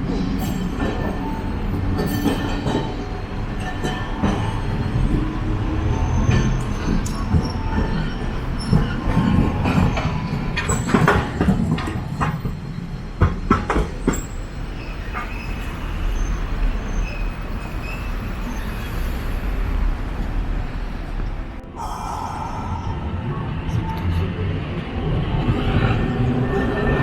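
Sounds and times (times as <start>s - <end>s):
wheels clacking on rails: 0.0s - 21.6s
streetcar low rumble: 0.0s - 27.0s.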